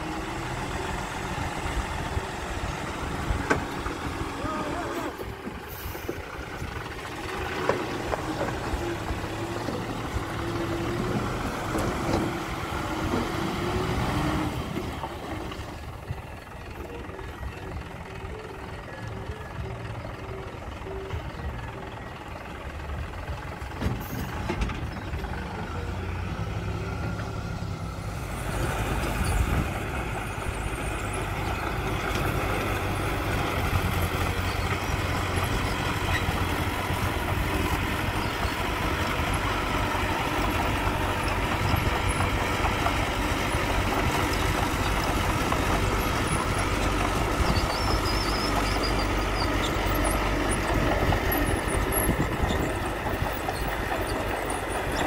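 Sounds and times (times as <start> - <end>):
bulldozer pushing soil: 0.0 - 55.0
diesel engines of heavy machinery: 0.0 - 55.0
dump truck tipping soil: 0.1 - 16.4, 23.3 - 55.0.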